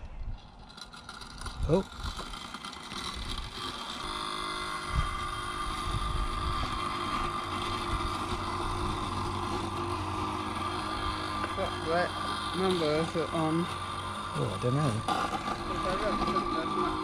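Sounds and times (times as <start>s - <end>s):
robot lawn mower motor whine: 0.3s - 17.0s.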